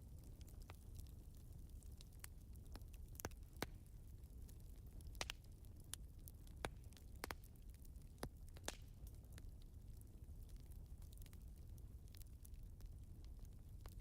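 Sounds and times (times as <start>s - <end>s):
low steady background noise: 0.0s - 14.0s
wood fire crackling and popping: 0.0s - 14.0s.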